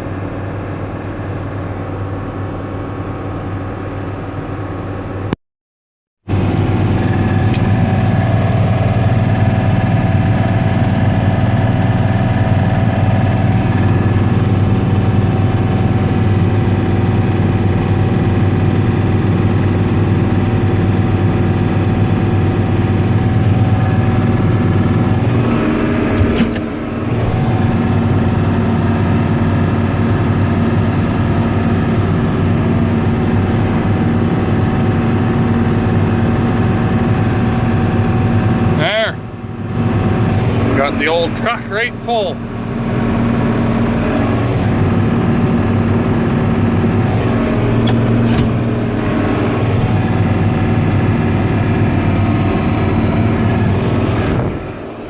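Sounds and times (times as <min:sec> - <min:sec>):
combine harvester drone: 0:00.0 - 0:05.4, 0:06.3 - 0:55.0
steady hum: 0:06.3 - 0:55.0.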